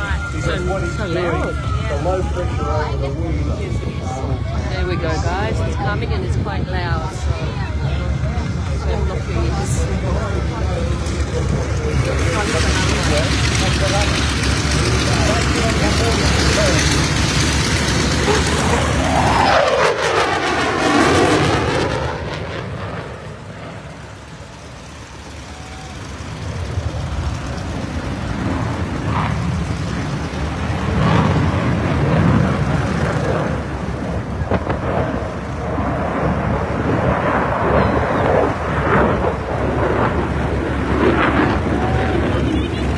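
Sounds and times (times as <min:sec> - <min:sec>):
fighter jet passing by: 0:00.0 - 0:42.9
steady jet rumble: 0:00.0 - 0:42.9.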